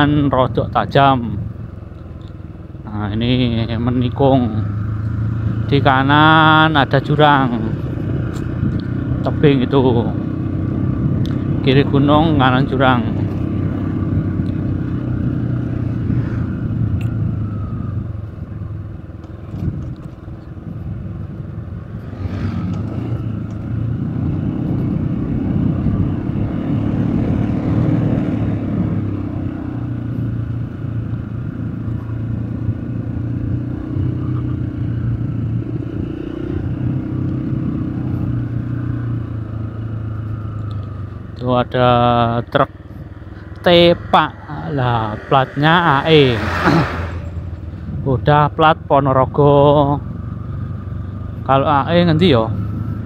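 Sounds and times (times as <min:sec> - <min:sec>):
vehicle engine humming: 0:00.0 - 0:53.0
wind and road noise: 0:00.0 - 0:53.0.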